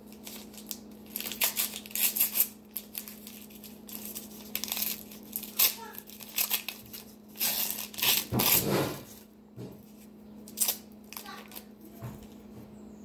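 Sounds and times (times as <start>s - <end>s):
paper wrapper rustling and tearing: 0.0s - 9.3s, 9.9s - 11.8s
faint steady hum: 0.0s - 13.0s.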